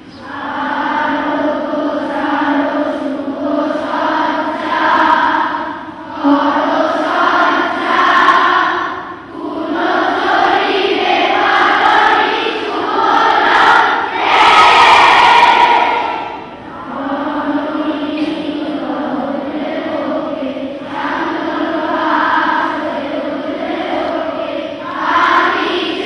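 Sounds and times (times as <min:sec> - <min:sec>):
group singing in unison: 0:00.1 - 0:26.0.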